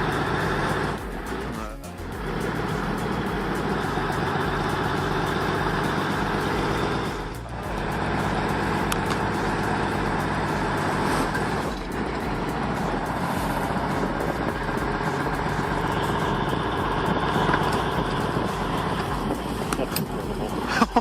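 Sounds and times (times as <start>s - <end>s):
truck diesel engine under load: 0.0s - 21.0s.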